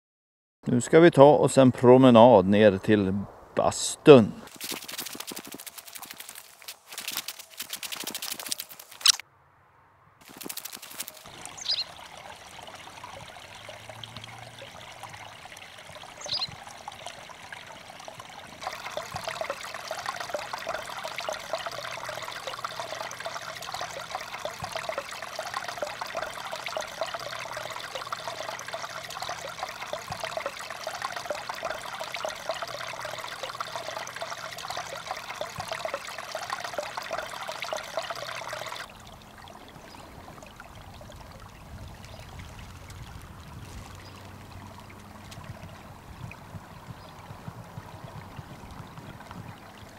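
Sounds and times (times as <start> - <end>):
water trickling and running: 4.5 - 9.2, 10.2 - 49.9.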